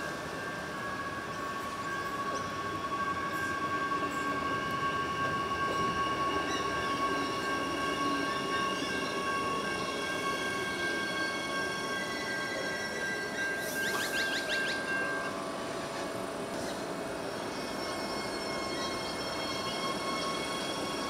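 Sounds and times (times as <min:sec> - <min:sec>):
electric train high whine: 0:00.0 - 0:21.0.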